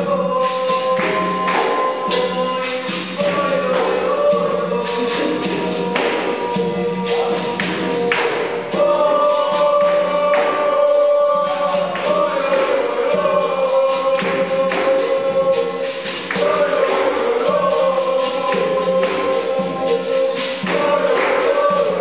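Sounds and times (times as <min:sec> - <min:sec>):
berimbau and pandeiro rhythm: 0:00.0 - 0:22.0
group singing: 0:00.0 - 0:22.0.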